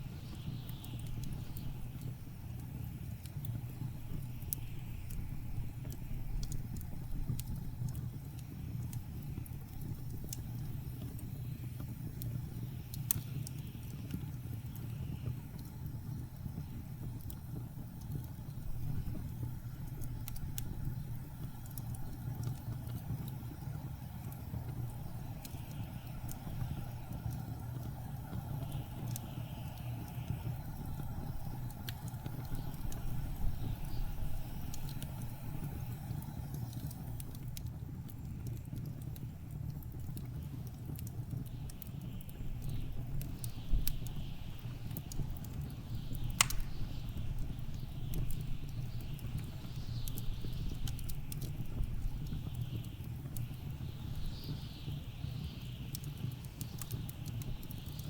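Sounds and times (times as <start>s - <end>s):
low rumble of blizzard wind: 0.0s - 58.0s
wood fire crackling: 0.0s - 58.0s.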